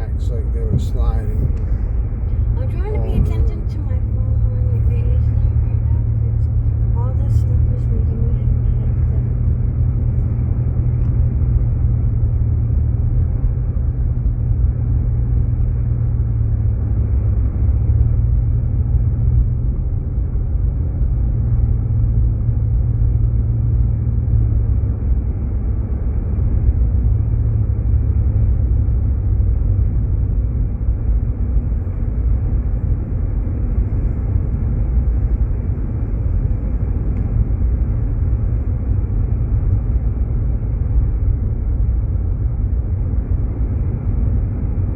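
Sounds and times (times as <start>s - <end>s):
road and engine rumble: 0.0s - 44.9s.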